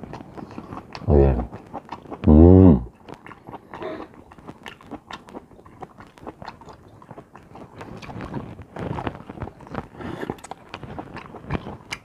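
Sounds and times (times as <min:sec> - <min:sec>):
person chewing crab meat: 0:00.0 - 0:12.0.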